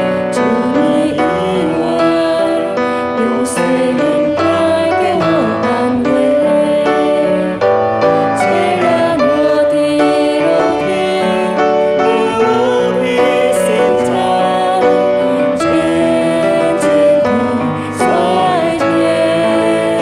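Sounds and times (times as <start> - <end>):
grand piano: 0.0 - 20.0
woman singing a hymn: 0.0 - 20.0.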